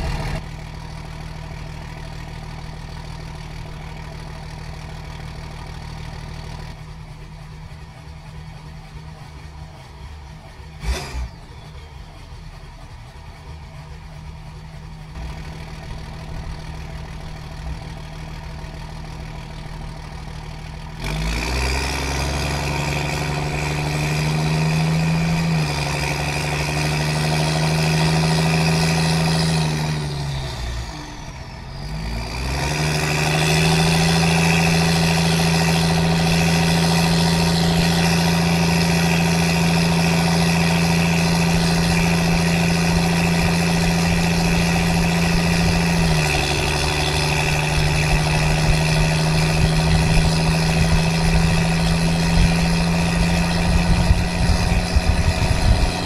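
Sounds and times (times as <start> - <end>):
diesel truck accelerating: 0.0 - 56.0.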